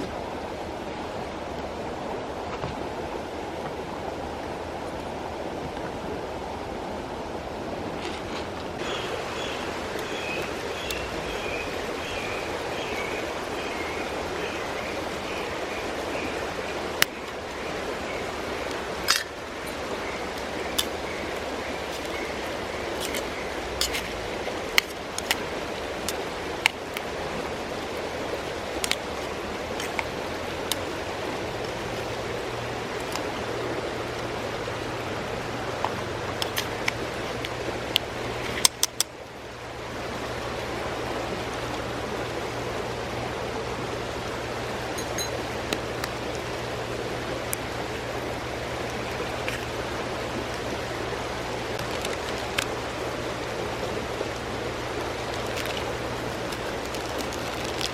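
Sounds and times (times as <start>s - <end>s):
mountain stream running: 0.0s - 57.9s.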